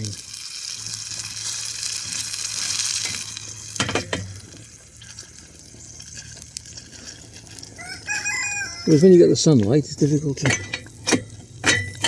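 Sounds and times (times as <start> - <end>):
gas burner hissing: 0.0 - 8.1, 8.7 - 12.0.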